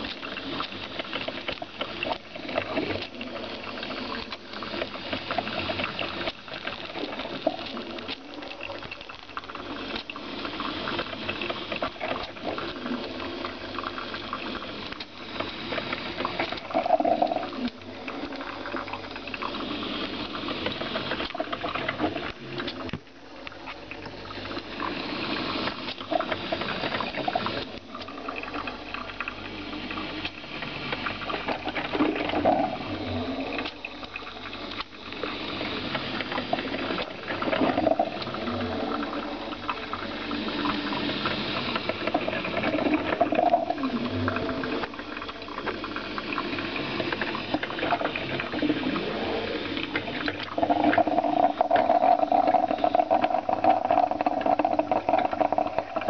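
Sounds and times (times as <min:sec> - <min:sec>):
coffee maker bubbling: 0:00.0 - 0:56.0.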